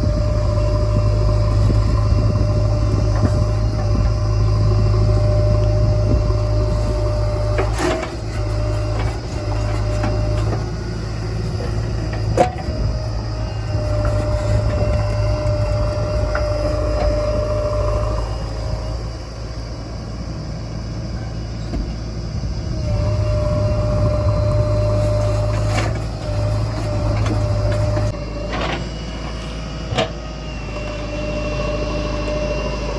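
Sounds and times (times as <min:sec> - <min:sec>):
diesel engine working under load: 0:00.0 - 0:32.9.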